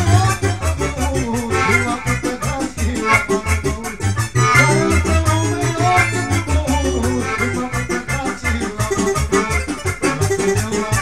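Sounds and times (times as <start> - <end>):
keyboard folk dance tune: 0.0 - 11.0.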